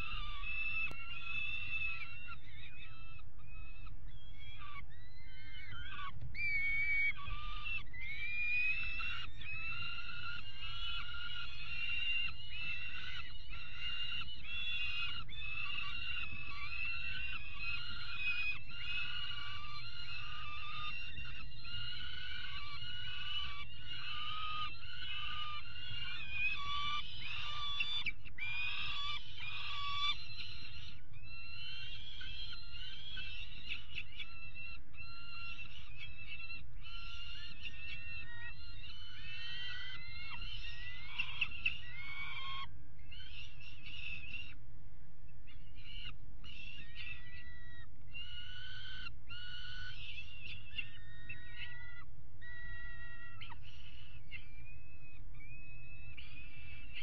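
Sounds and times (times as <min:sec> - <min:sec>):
young falcons wailing calls: 0:00.0 - 0:44.6, 0:45.4 - 0:57.0.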